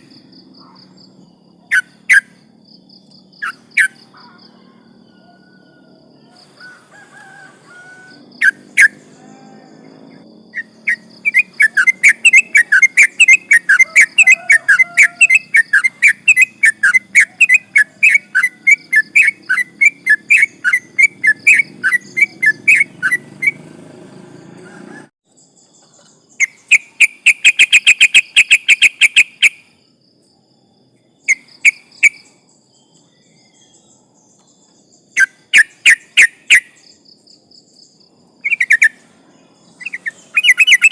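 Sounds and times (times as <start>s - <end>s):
bird chattering song: 0.0s - 23.8s, 24.6s - 29.8s, 31.2s - 40.9s.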